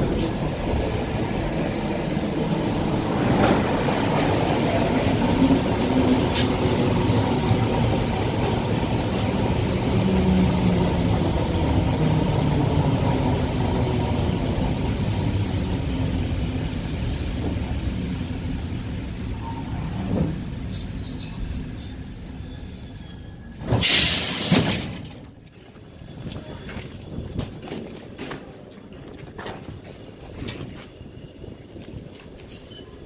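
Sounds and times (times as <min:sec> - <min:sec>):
train carriage rumble: 0:00.0 - 0:33.0.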